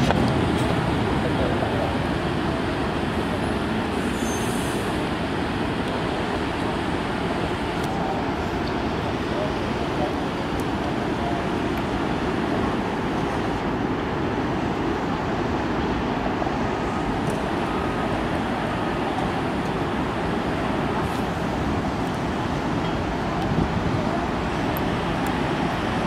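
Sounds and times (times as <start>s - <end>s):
jet engines idling: 0.0s - 26.0s.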